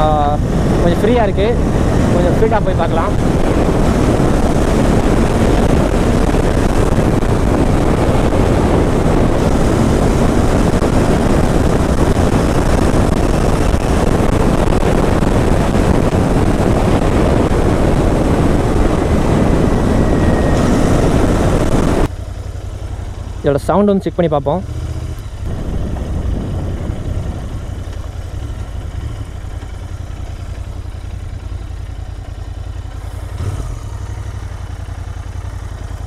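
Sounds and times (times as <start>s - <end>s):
wind rush on microphone: 0.0s - 34.8s
motorcycle engine running: 0.0s - 36.0s.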